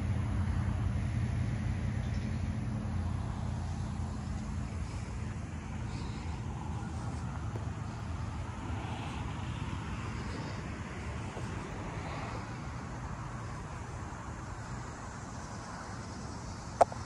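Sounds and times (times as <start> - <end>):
road traffic: 0.0 - 17.0
vehicles passing: 0.0 - 17.0.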